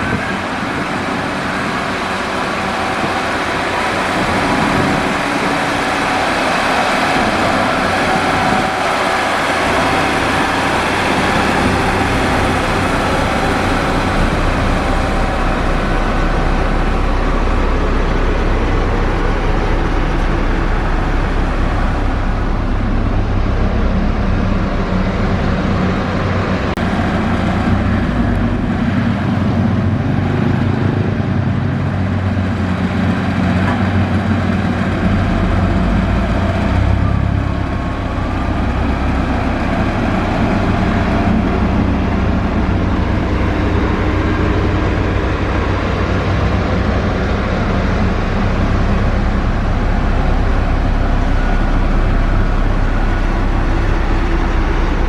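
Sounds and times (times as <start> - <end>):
construction machine engine droning: 0.0 - 55.0.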